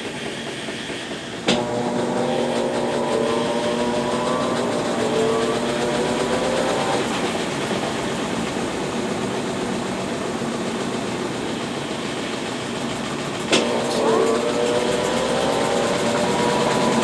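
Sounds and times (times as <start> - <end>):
washing machine churning: 0.0 - 17.0
washing machine motor hum: 1.2 - 17.0.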